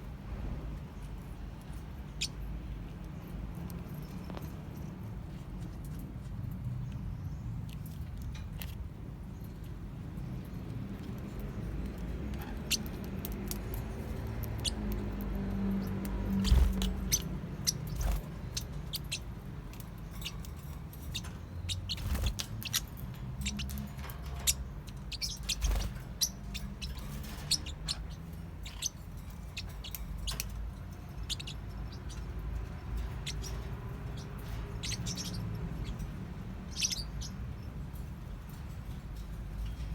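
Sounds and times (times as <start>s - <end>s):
parrotlets chirping: 1.0s - 5.4s, 7.0s - 39.9s.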